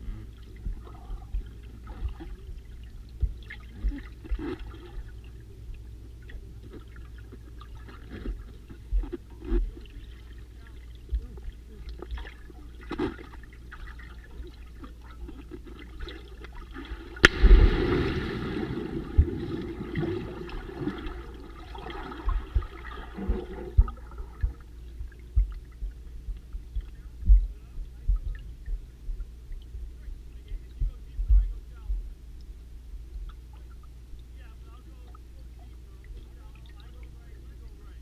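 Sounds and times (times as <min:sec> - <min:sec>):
underwater bubbling and gurgling: 0:00.0 - 0:38.0.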